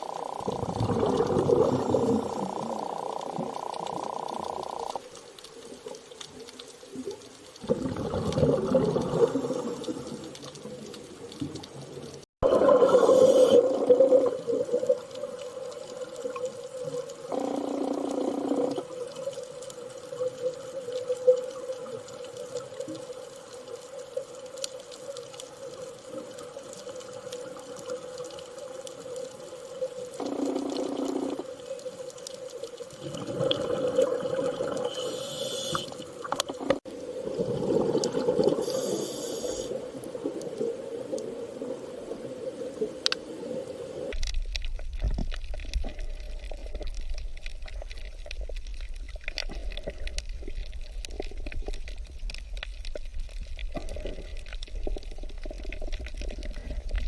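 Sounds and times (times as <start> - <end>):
water bubbling and gurgling: 0.0 - 57.0.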